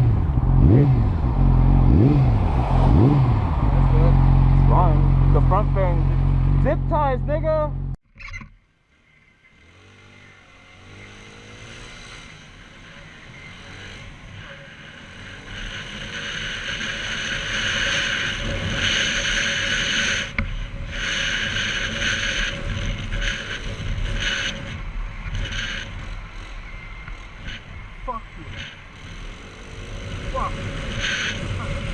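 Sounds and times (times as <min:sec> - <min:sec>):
motorcycle engine: 0:00.0 - 0:31.9.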